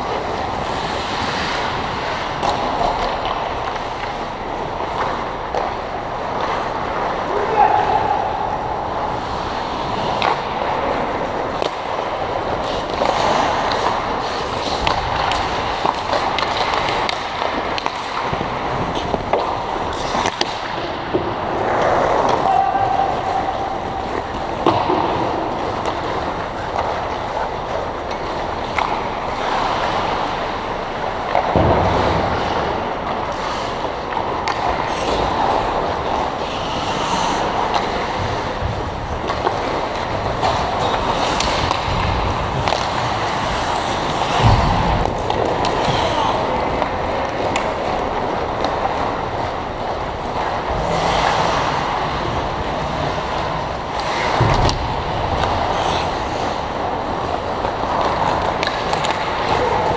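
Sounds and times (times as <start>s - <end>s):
skates scraping on ice: 0.0s - 59.9s
steady rushing noise: 0.0s - 59.9s
sticks and puck clacking: 0.0s - 59.9s.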